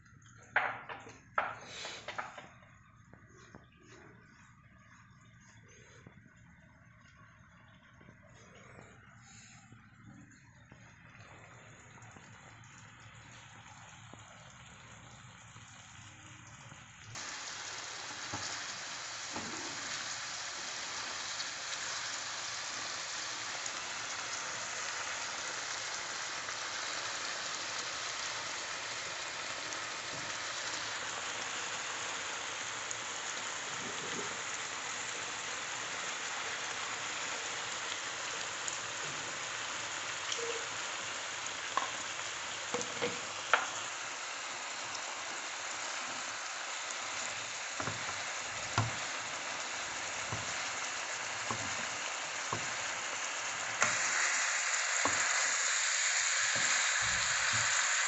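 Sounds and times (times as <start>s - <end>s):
sauce bubbling and sizzling in a pan: 0.0s - 58.0s.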